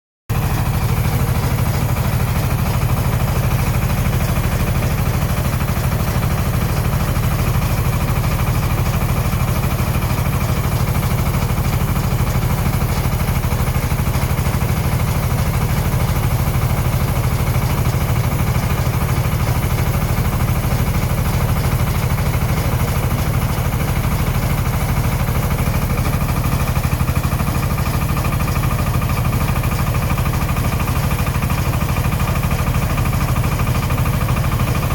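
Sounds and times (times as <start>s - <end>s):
engine running with low pulse: 0.3s - 34.9s.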